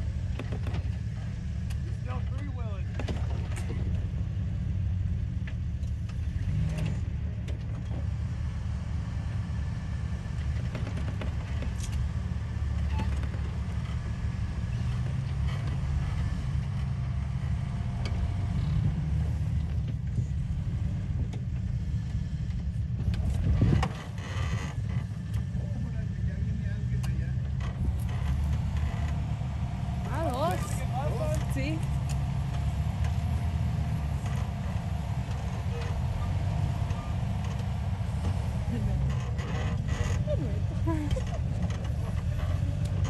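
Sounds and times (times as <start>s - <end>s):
car engine running low: 0.0s - 43.0s.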